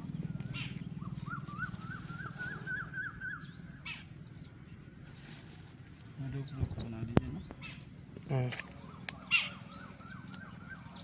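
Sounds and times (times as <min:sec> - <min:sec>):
bird warbling call: 0:00.0 - 0:11.0
low pulsing hum: 0:00.0 - 0:11.0.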